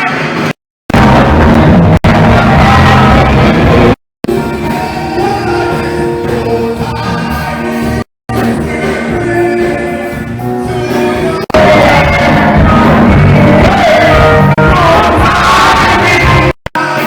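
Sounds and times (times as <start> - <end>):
church choir singing gospel: 2.2 - 17.0.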